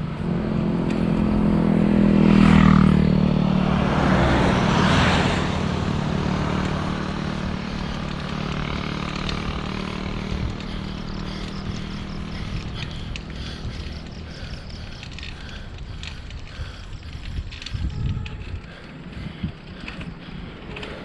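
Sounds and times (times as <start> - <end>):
steady rushing noise: 0.0 - 21.0
vehicle engine passing: 0.0 - 21.0.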